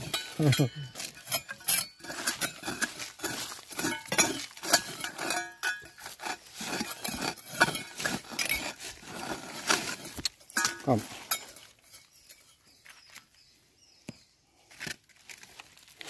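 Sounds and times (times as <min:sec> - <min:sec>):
metallic clinks and scrapes: 0:00.0 - 0:13.3.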